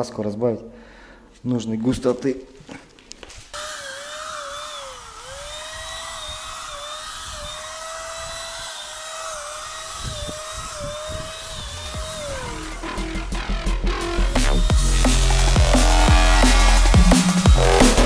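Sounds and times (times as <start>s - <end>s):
paint sprayer motor whining: 3.2s - 18.0s.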